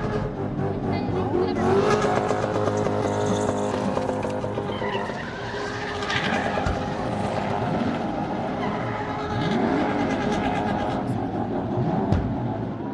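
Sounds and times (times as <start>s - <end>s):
car engine revving: 0.0s - 12.9s
tyres skidding and squealing: 0.0s - 12.9s.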